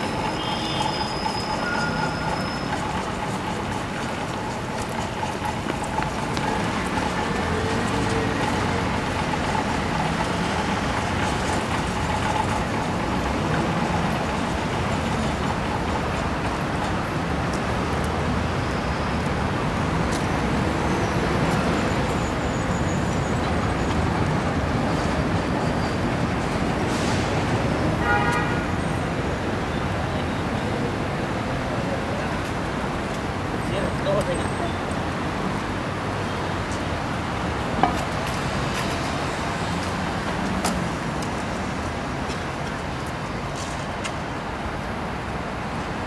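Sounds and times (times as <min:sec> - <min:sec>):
city road traffic: 0:00.0 - 0:46.0.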